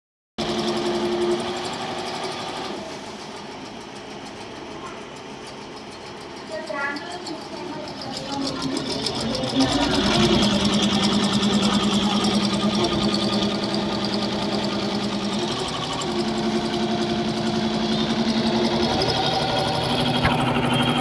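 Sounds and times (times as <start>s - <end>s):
embroidery sewing machine stitching: 0.4s - 21.0s.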